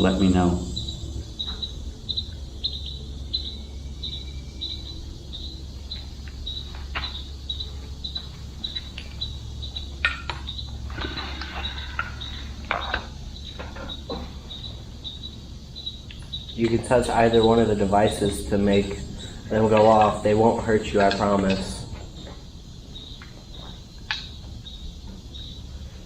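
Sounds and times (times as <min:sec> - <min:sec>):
constant low hum: 0:00.0 - 0:26.0
crickets chirping: 0:00.0 - 0:26.0.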